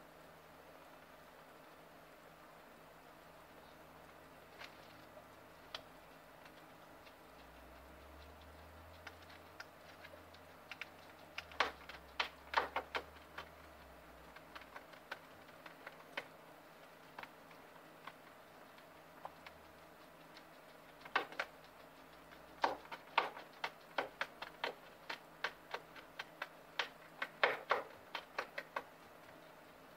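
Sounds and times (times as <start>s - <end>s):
guinea pig chewing food: 2.2s - 29.9s.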